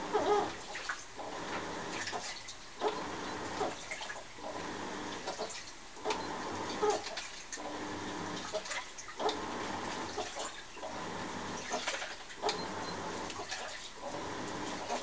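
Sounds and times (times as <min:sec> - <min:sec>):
washing machine water sloshing: 0:00.0 - 0:15.0.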